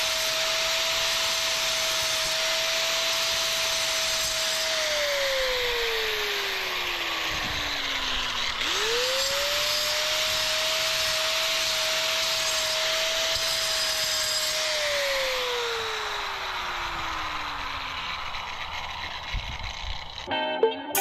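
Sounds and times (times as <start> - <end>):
angle grinder cutting concrete: 0.0 - 20.3.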